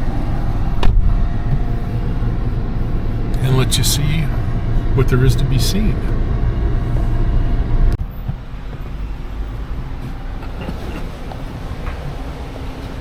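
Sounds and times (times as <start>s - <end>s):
vehicle rumble from on board: 0.0s - 13.0s.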